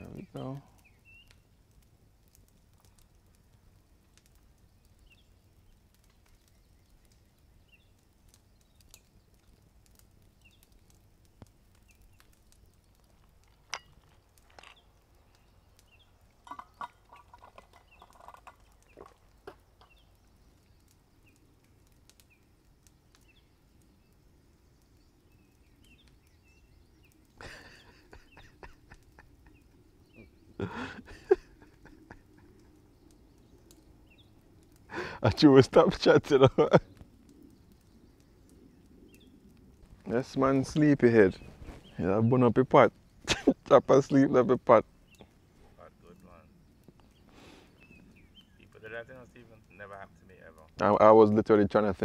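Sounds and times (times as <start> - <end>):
faint bird chirps: 0.0 - 1.6, 4.4 - 10.9, 13.8 - 35.5, 36.6 - 50.7.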